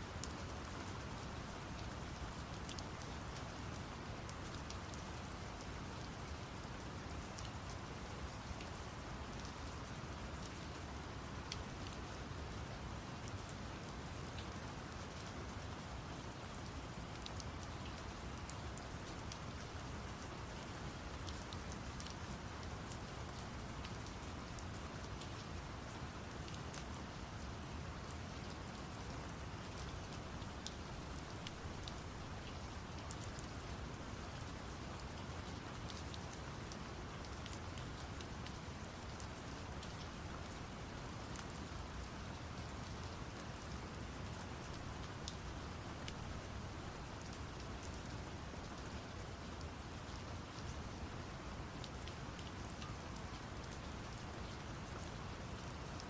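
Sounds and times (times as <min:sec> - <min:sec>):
steady rain with drop ticks: 0:00.0 - 0:56.0.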